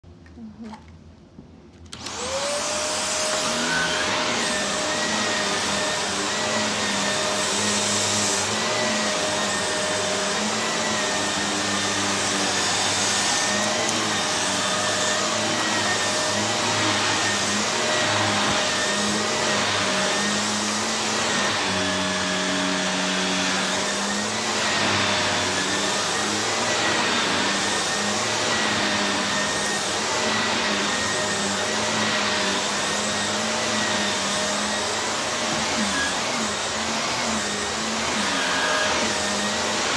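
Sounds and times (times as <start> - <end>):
upright vacuum cleaner running: 1.9 - 39.9.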